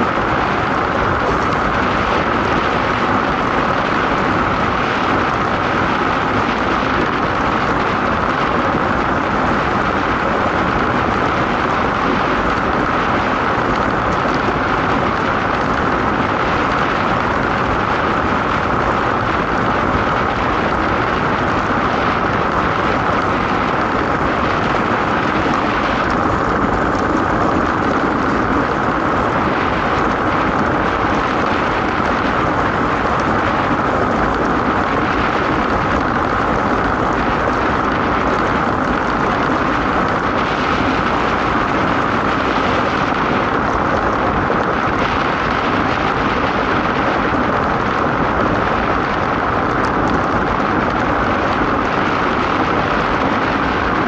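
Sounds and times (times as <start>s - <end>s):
wind: 0.0s - 54.0s.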